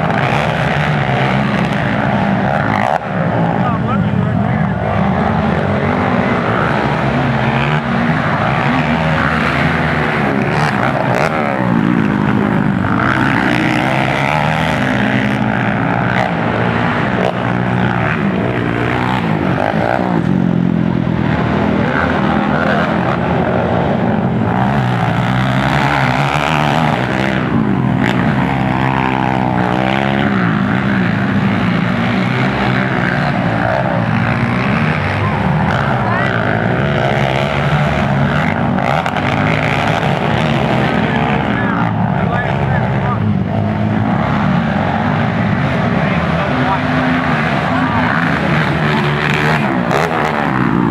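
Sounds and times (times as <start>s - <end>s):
quad engines revving: 0.0s - 50.9s.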